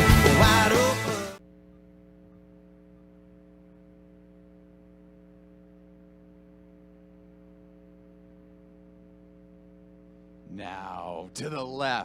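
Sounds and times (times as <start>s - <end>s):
loudspeaker electrical hum: 0.0s - 12.0s.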